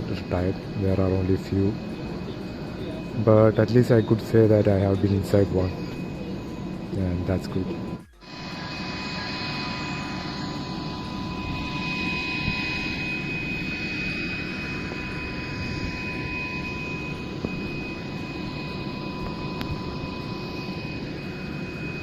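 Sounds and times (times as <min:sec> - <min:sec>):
high whining tones: 0:00.0 - 0:22.0.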